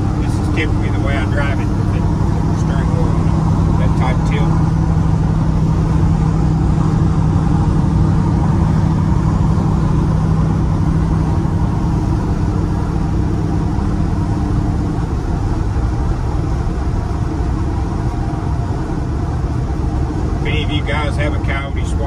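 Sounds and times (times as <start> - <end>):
engine drone inside cab: 0.0 - 22.0
tyre and road noise: 0.0 - 22.0.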